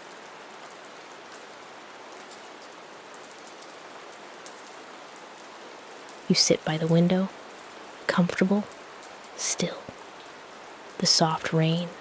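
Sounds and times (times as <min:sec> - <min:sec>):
soft rain falling: 0:00.0 - 0:12.0.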